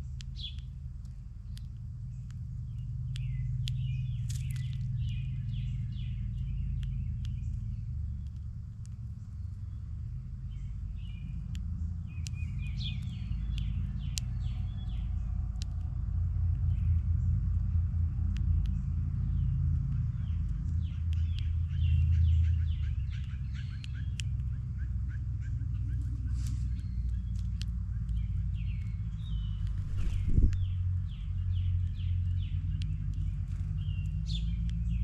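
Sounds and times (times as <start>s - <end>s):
songbirds chirping: 0.0s - 35.0s
steady low rumble: 0.0s - 35.0s.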